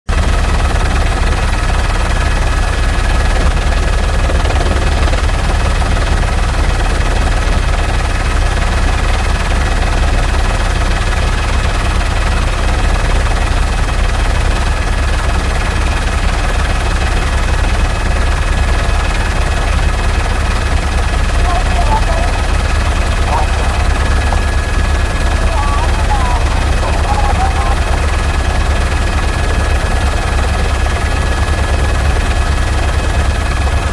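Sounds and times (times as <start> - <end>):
helicopter engine whine: 0.1 - 33.9
helicopter rotor beating: 0.1 - 33.9.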